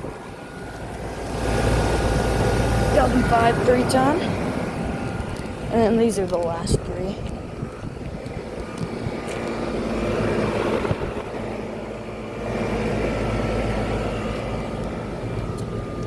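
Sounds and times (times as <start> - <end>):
compressor hum: 0.0 - 16.0
condenser fan whooshing: 0.0 - 16.0.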